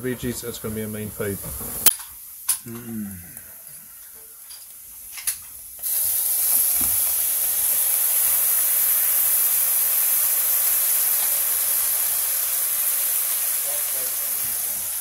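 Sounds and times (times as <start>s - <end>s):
liquid sizzling on hot metal: 0.0s - 2.8s, 3.4s - 15.0s.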